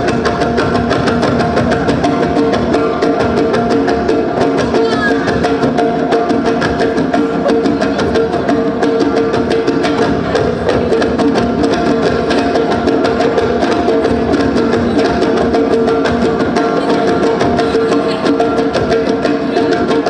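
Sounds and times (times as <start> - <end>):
music with fast percussion beat: 0.0 - 20.0.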